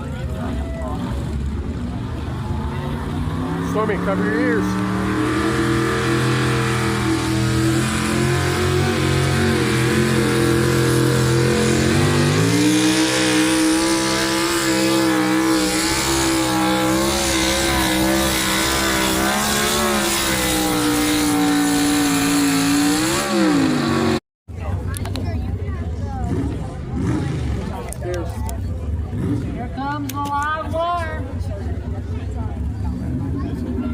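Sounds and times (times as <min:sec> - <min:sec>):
truck engine at full throttle: 0:00.0 - 0:33.9.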